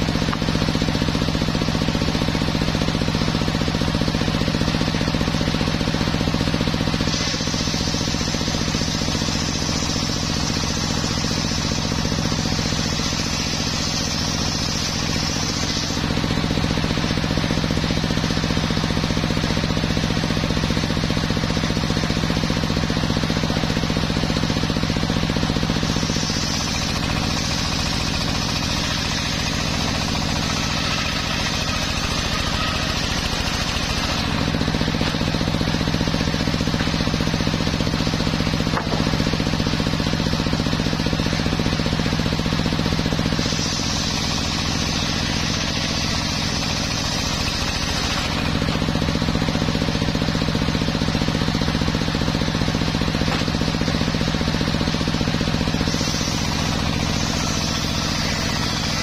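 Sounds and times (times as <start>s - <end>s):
circular saw humming: 0.0s - 59.0s
saw blade hissing in wood: 0.0s - 59.0s.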